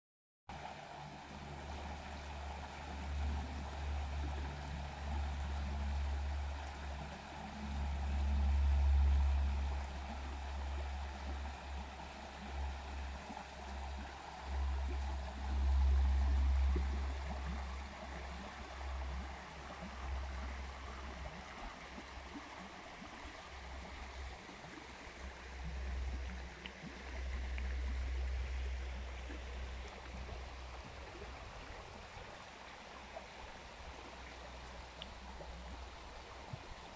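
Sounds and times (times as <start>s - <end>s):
low rumble: 1.0s - 32.4s.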